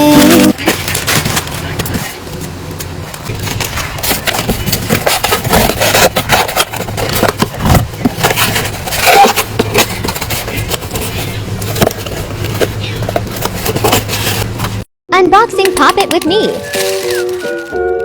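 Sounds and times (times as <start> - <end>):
packaging rustling and scraping: 0.0 - 14.9, 16.1 - 18.0.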